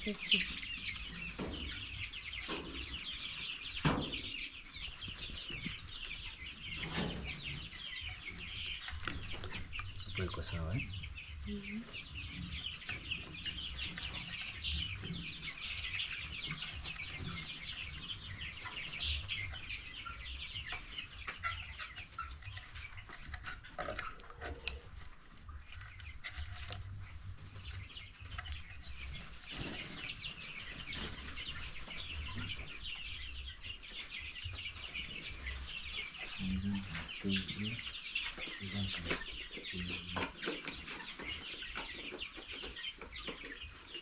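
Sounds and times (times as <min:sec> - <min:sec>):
chicks cheeping: 0:00.0 - 0:44.0.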